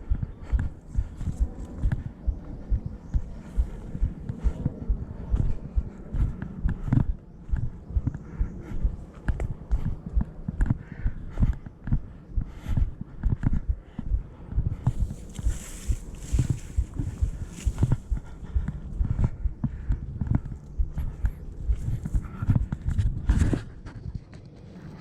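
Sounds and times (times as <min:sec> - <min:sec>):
footsteps on hill trail: 0:00.5 - 0:24.8.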